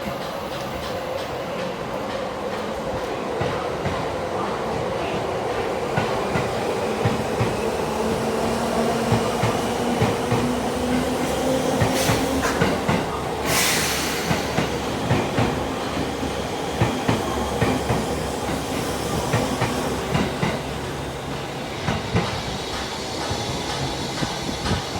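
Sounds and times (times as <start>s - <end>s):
train wheels clacking: 0.0s - 24.9s.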